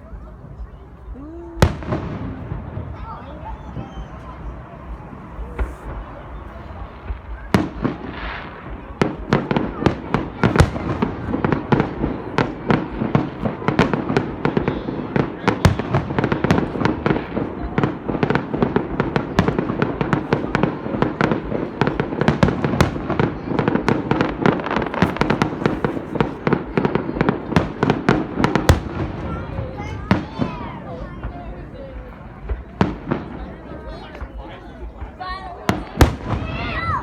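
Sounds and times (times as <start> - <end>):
fireworks bangs and cracks: 0.0 - 37.0.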